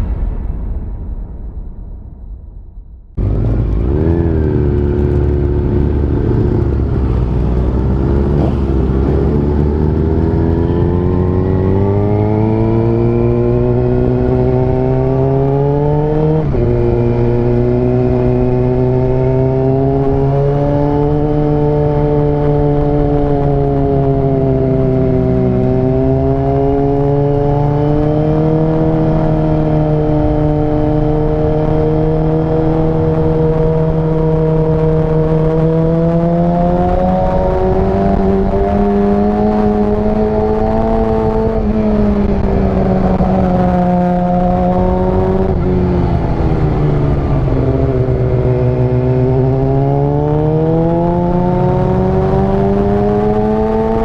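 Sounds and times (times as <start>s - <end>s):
motorcycle engine revving: 3.1s - 54.0s.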